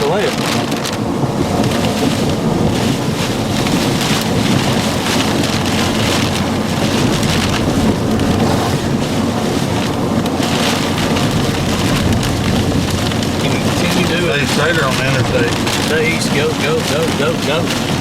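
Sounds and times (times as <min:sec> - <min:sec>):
rain and wind on vehicle: 0:00.0 - 0:18.0
road and engine rumble: 0:00.0 - 0:18.0.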